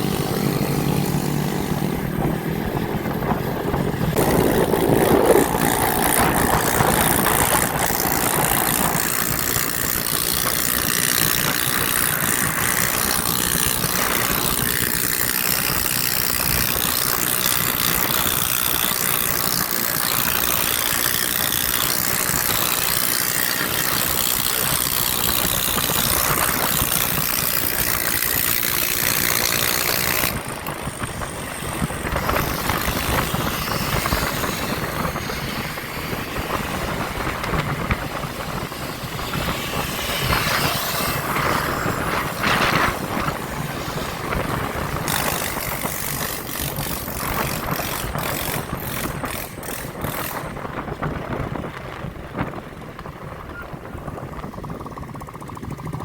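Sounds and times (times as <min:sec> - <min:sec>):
motorcycle engines running: 0:00.0 - 0:56.0.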